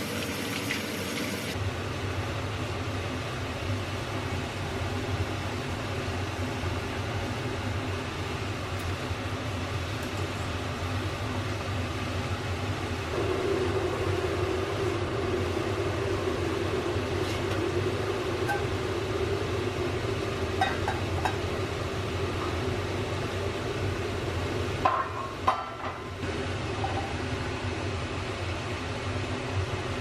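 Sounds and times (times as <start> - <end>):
mechanical motor hum: 0.0 - 25.0.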